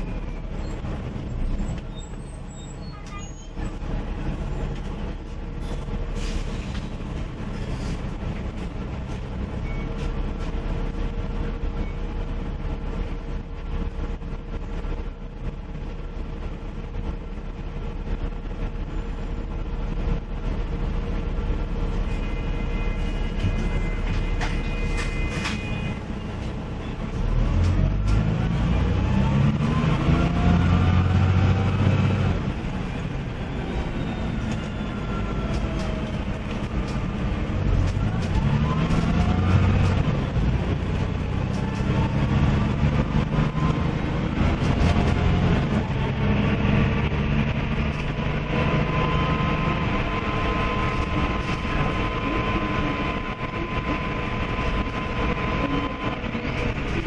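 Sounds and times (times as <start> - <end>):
bus diesel engine accelerating: 0.0 - 57.0.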